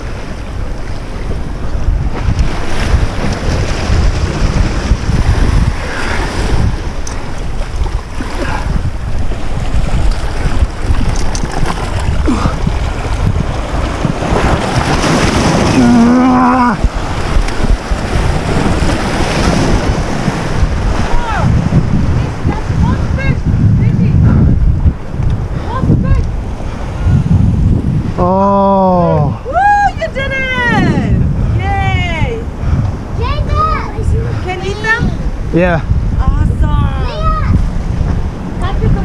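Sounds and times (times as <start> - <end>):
surf washing against rocks: 0.0 - 39.0
wind buffeting microphone: 0.0 - 39.0.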